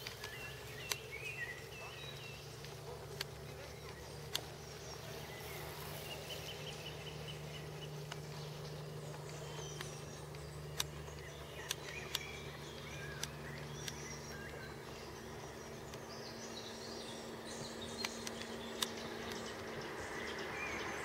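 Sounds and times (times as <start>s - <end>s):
sharp clicks: 0.0s - 5.2s, 6.9s - 20.4s
small birds chirping: 0.0s - 21.0s
steady low hum: 0.0s - 21.0s.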